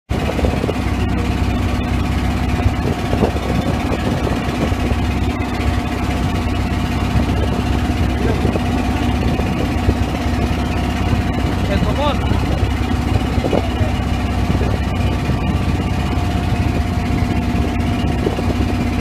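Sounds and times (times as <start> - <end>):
boat engine rumbling: 0.1 - 19.0.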